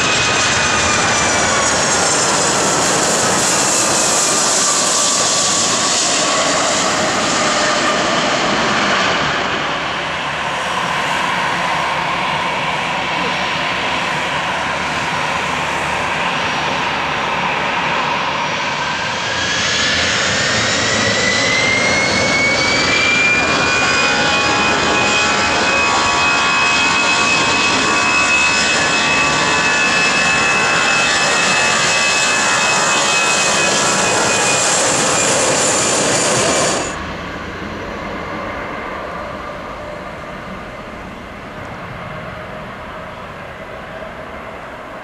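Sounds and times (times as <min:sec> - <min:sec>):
high engine whine rising: 0:00.0 - 0:40.8
jet engine roar: 0:00.0 - 0:45.0.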